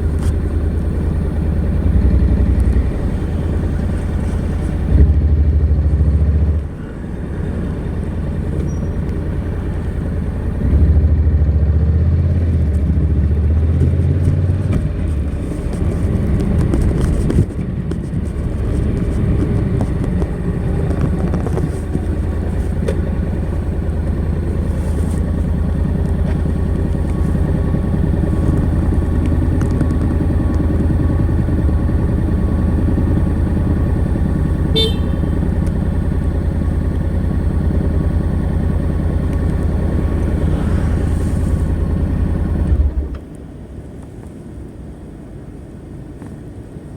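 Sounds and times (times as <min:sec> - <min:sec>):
motorcycle engine running: 0:00.0 - 0:43.6.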